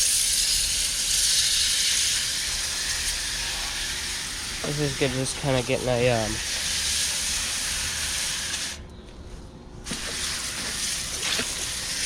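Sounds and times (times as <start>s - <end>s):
hose nozzle spraying water: 0.0s - 8.8s, 9.9s - 12.0s.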